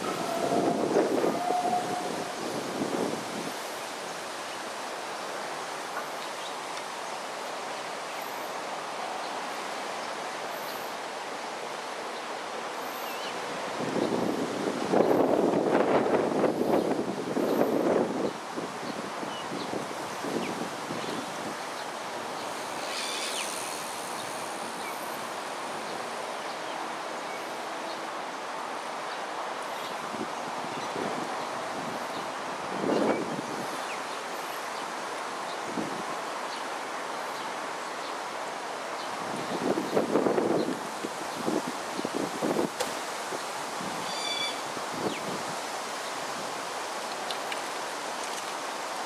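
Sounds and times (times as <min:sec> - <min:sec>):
even outdoor hiss: 0:00.0 - 0:49.0.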